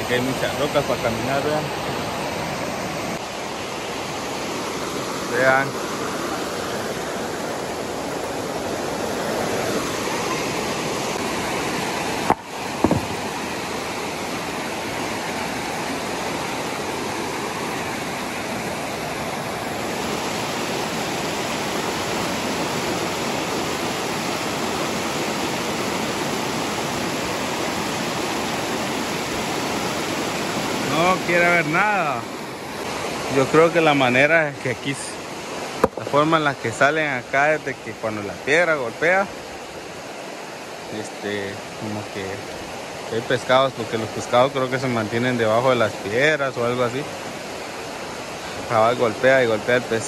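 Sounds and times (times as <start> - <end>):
river rapids rushing over boulders: 0.0 - 50.0.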